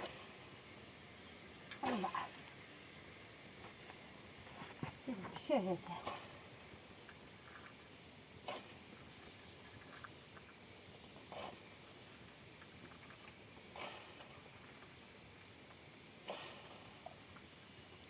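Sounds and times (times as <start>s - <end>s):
faint high-pitched hiss: 0.0s - 18.0s.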